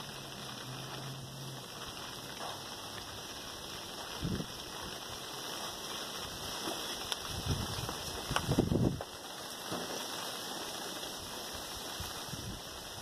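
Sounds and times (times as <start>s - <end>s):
steady rain hissing: 0.0s - 13.0s.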